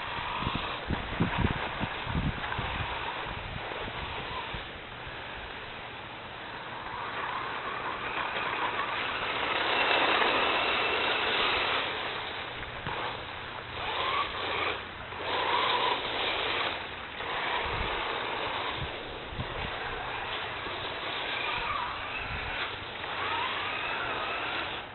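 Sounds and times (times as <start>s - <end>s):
rc car motor and tyres: 0.0s - 24.9s.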